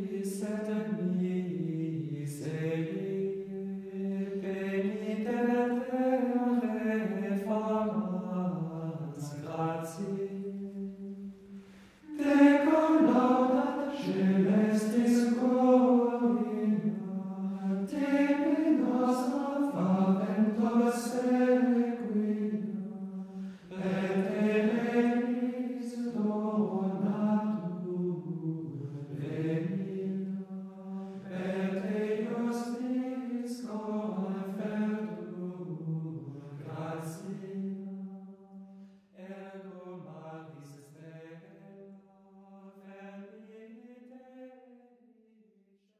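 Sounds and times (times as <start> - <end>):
sacred vocal chant: 0.0 - 44.8.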